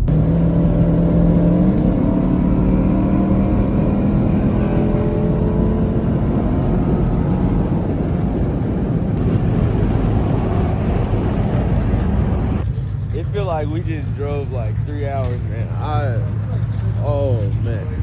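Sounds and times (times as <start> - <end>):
car engine: 0.0 - 18.0
road noise: 0.0 - 18.0.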